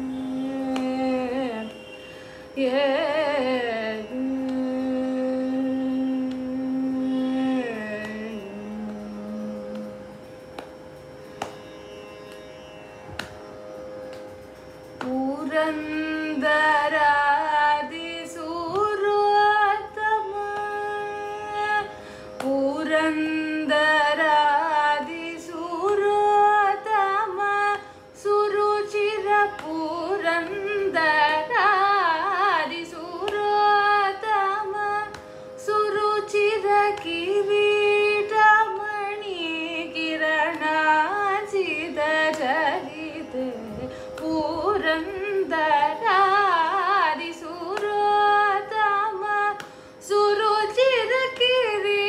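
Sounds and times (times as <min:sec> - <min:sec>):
woman singing: 0:00.0 - 0:10.2, 0:15.0 - 0:52.0
steady drone tone: 0:00.0 - 0:52.0.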